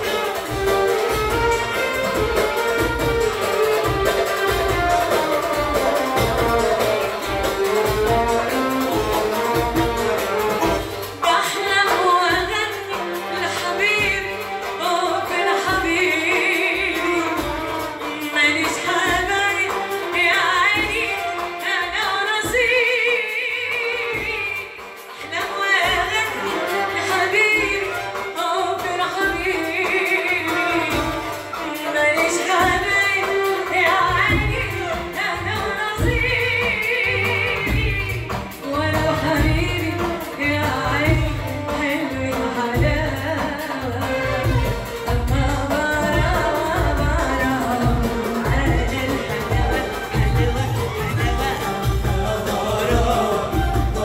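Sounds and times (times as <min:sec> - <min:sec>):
frame drum: 0:00.0 - 0:54.0
woman singing with vibrato: 0:00.0 - 0:54.0.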